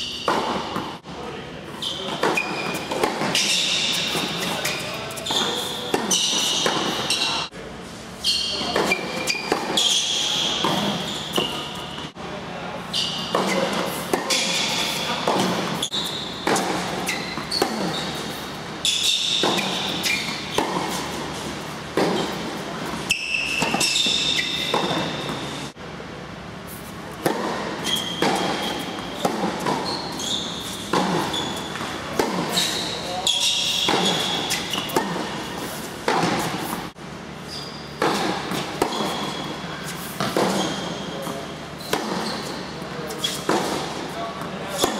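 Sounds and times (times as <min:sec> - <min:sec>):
racket hitting tennis ball: 0:00.0 - 0:01.0, 0:01.8 - 0:07.5, 0:08.4 - 0:12.1, 0:13.0 - 0:25.7, 0:26.7 - 0:37.0, 0:37.9 - 0:44.9
tennis ball bouncing: 0:00.0 - 0:01.0, 0:02.0 - 0:07.4, 0:08.6 - 0:12.1, 0:13.1 - 0:25.5, 0:27.1 - 0:37.0, 0:38.0 - 0:44.9.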